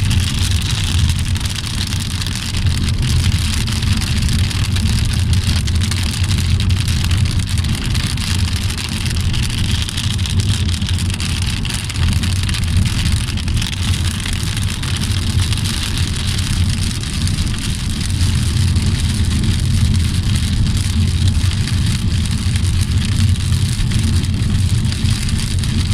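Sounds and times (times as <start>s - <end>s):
car driving rumble: 0.0s - 25.9s
rain pattering on car: 0.0s - 25.9s.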